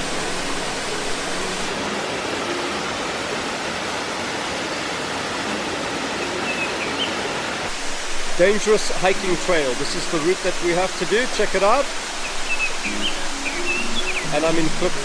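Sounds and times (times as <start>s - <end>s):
waterfall pouring and splashing: 0.0s - 15.0s.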